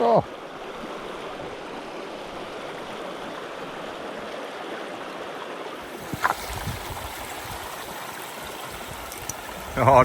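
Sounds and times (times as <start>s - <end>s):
river flowing: 0.0s - 10.0s.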